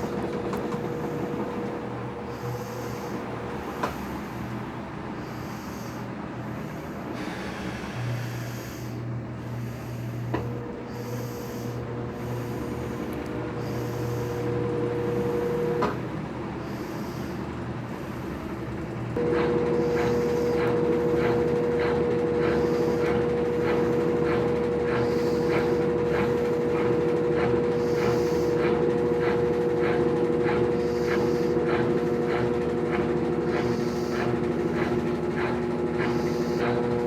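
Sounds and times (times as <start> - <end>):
washing machine motor humming: 0.0 - 37.0.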